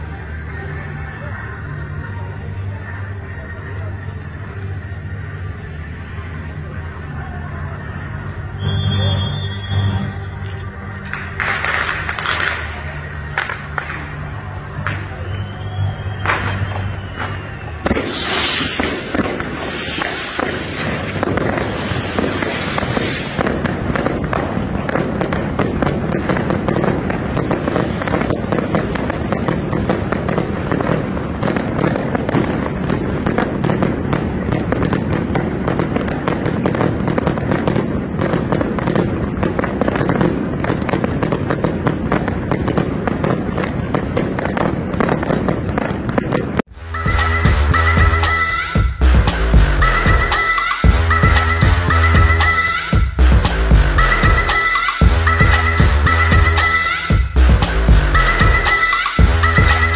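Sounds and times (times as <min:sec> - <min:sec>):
crowd voices: 0:00.0 - 0:59.9
fireworks and firecrackers banging: 0:00.0 - 0:59.9.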